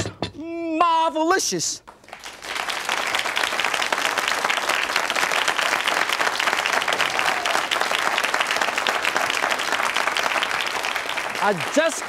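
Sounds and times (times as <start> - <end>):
audience applauding: 1.9 - 12.0.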